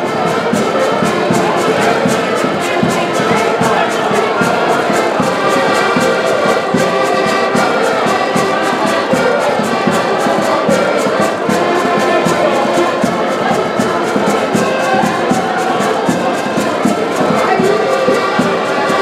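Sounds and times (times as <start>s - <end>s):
accordions playing a tune: 0.0s - 19.0s.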